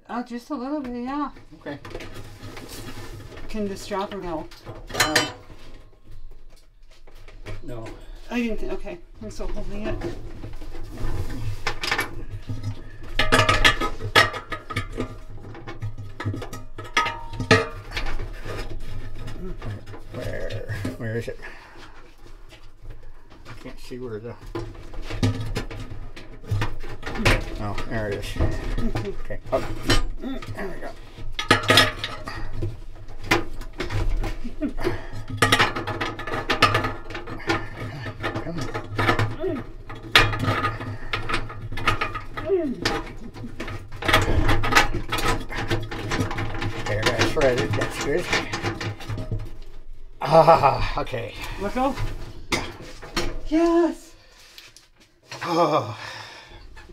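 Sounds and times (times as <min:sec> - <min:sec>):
metal clanks and scrapes: 0:00.6 - 0:53.6
metal clinks and knocks: 0:00.8 - 0:53.8.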